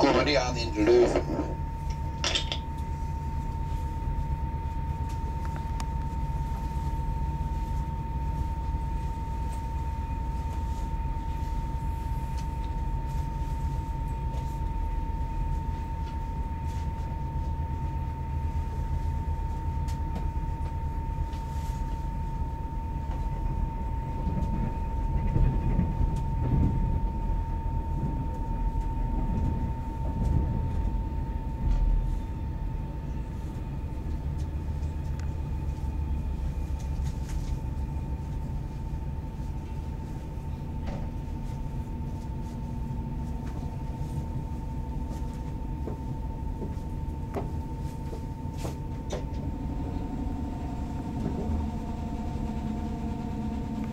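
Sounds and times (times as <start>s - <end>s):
thin high whine: 0.0s - 53.9s
wheels rumbling on rails: 0.0s - 53.9s.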